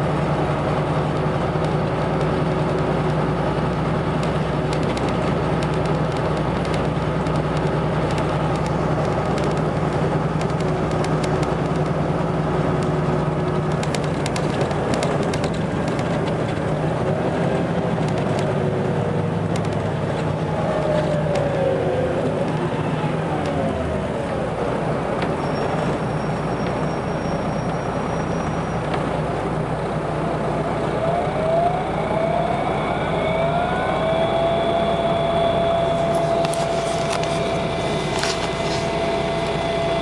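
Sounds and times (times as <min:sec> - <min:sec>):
bus diesel engine droning: 0:00.0 - 0:40.0
rising engine whine: 0:00.0 - 0:40.0.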